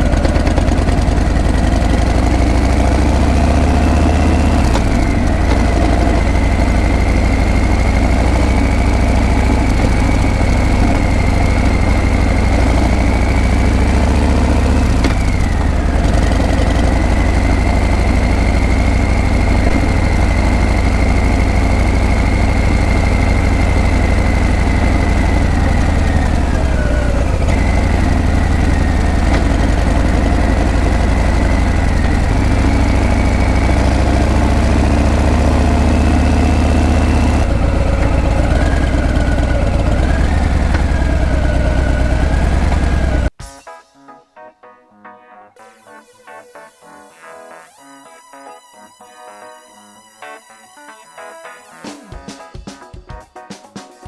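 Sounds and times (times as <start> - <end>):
motorcycle engine running: 0.0 - 43.4.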